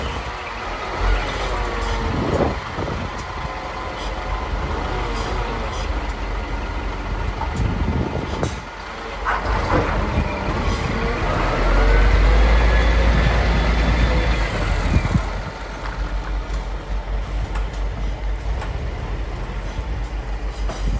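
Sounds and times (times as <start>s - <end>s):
diesel truck engine running: 0.0s - 20.9s
heavy low rumble: 0.0s - 20.9s.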